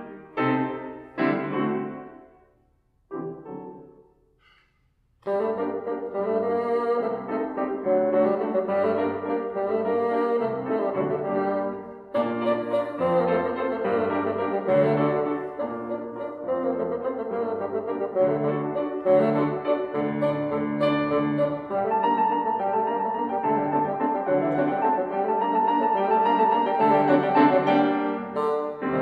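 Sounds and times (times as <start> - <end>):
grand piano playing: 0.0 - 4.3, 5.2 - 29.0
bassoon melody: 5.2 - 29.0.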